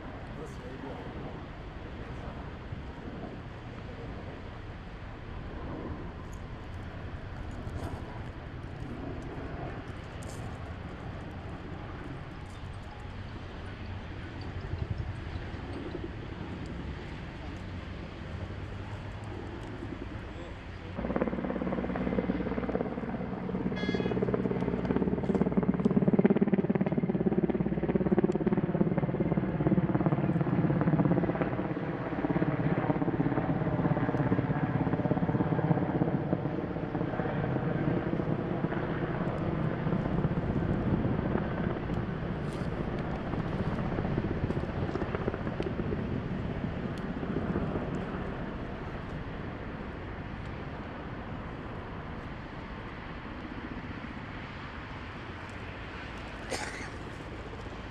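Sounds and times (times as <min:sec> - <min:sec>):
helicopter rotor drone: 0:00.0 - 0:57.9.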